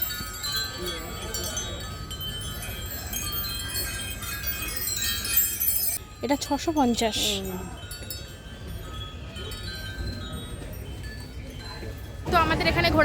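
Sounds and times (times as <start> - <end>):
wind chime ringing: 0.0 - 13.0.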